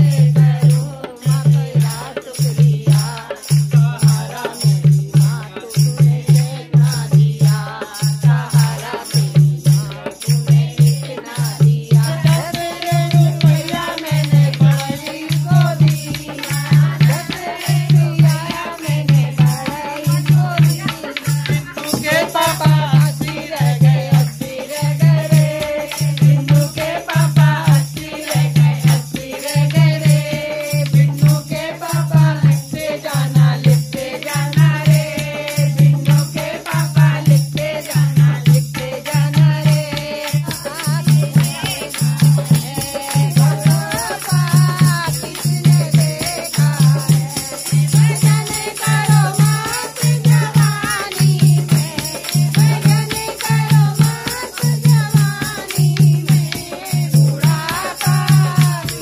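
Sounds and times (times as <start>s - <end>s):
group singing: 0.0s - 59.0s
hand drum beat: 0.0s - 59.0s.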